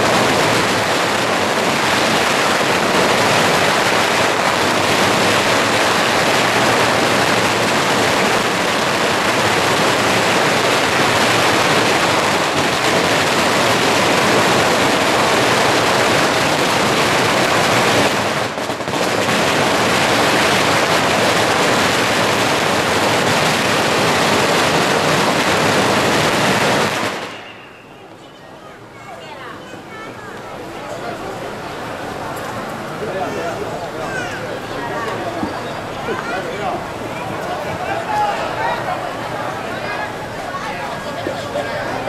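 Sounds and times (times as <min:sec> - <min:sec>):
firecrackers crackling: 0:00.0 - 0:29.0, 0:29.6 - 0:42.0.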